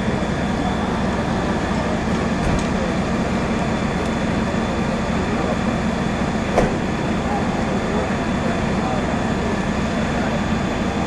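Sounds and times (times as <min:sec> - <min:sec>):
fire engine pump drone: 0:00.0 - 0:11.0.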